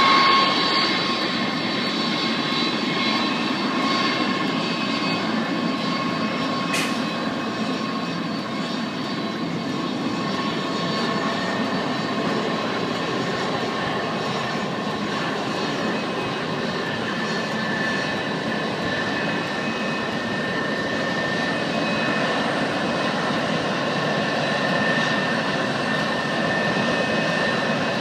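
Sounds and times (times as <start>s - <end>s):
high jet engine whine: 0.0s - 28.0s
jet engines rushing: 0.0s - 28.0s.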